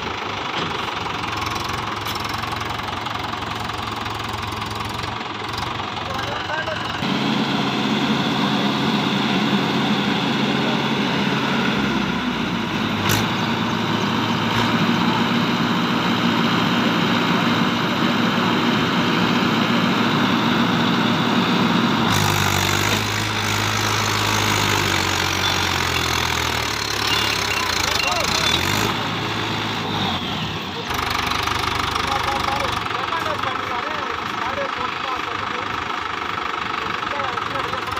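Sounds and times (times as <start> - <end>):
tractor diesel engine straining: 0.0 - 37.9.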